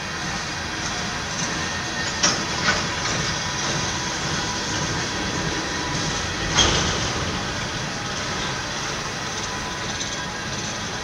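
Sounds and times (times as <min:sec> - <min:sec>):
train rumbling and rattling: 0:00.0 - 0:11.0.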